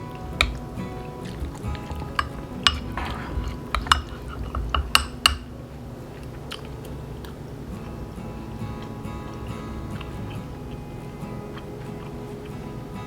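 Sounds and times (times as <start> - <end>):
utensil clinking against dish: 0.0 - 12.6
chewing: 0.0 - 13.0
soft background music: 0.0 - 13.0.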